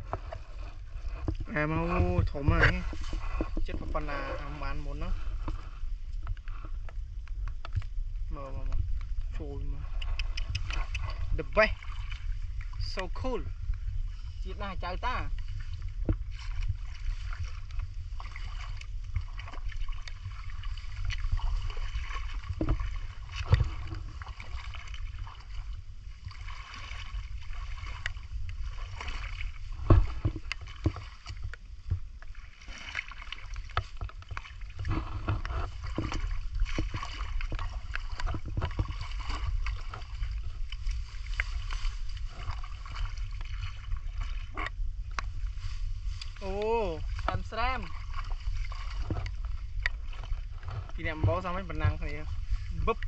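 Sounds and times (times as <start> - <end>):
steady low rumble: 0.0 - 53.0
water splashing around wading legs: 0.0 - 53.0.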